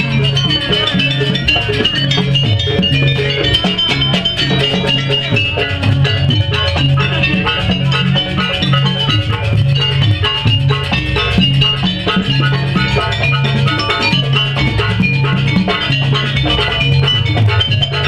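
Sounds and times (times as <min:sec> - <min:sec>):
drums: 0:00.0 - 0:18.0
gong-chimes and metallophones: 0:00.0 - 0:18.0.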